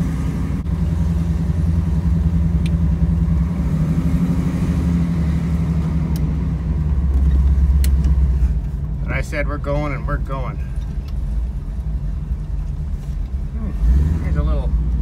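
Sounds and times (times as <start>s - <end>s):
pickup engine running in cab: 0.0s - 15.0s.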